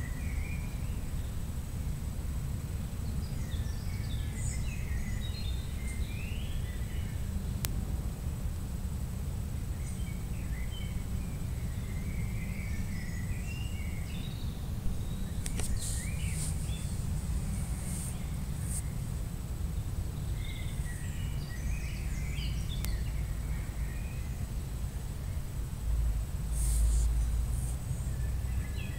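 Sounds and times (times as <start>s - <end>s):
faint chirps: 0.0s - 7.7s, 9.6s - 28.9s
steady low background noise: 0.0s - 28.9s.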